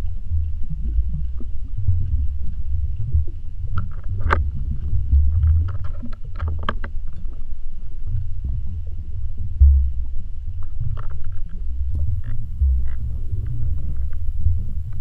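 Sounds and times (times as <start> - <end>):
underwater clicks and ticks: 0.0 - 15.0
underwater rumble: 0.0 - 15.0.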